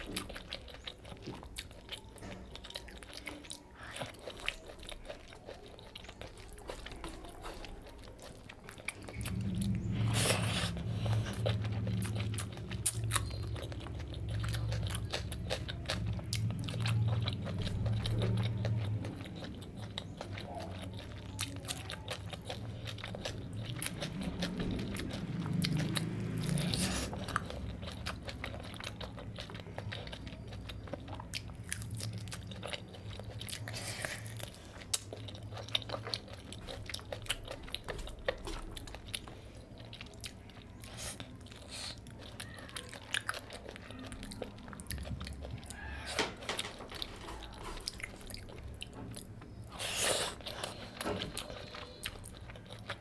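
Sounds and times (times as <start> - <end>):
man chewing food: 0.0 - 53.0.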